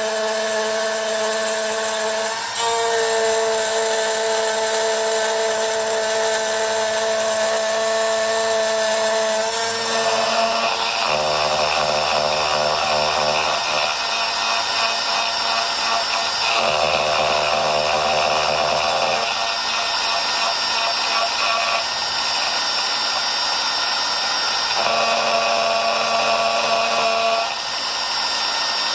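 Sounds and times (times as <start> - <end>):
engraving machine spindle whine: 0.0 - 28.9.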